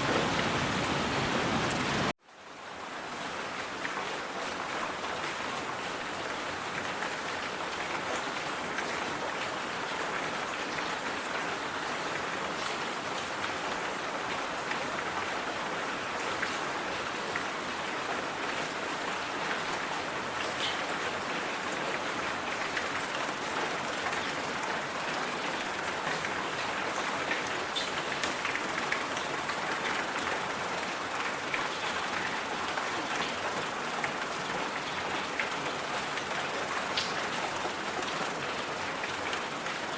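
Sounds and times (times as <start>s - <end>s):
rain-like white noise hiss: 0.0s - 39.9s.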